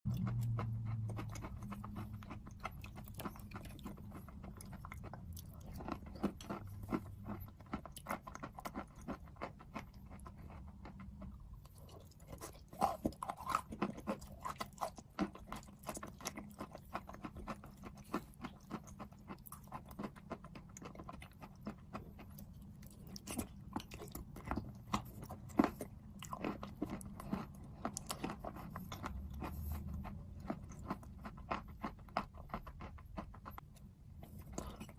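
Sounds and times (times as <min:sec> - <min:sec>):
person chewing crunchy food: 0:00.1 - 0:34.9
steady low hum: 0:00.1 - 0:34.9.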